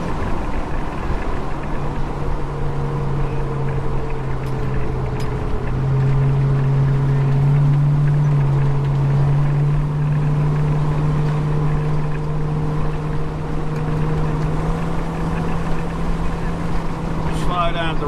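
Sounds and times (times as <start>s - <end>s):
car engine droning: 0.0s - 18.0s
road noise: 0.0s - 18.0s.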